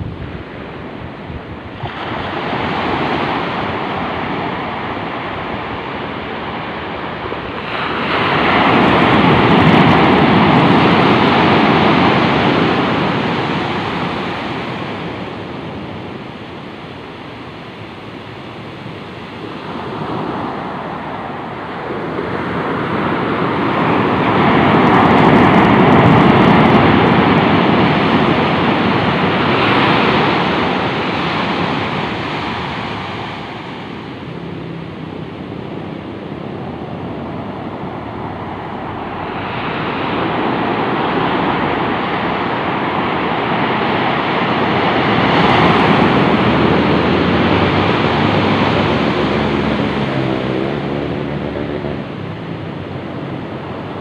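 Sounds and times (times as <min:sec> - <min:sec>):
surf breaking on beach: 0:00.1 - 0:54.0.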